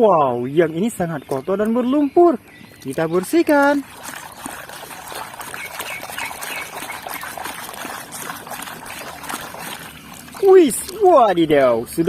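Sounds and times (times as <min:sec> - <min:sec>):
water pouring and trickling: 0:00.0 - 0:12.0
water dripping: 0:00.6 - 0:12.0.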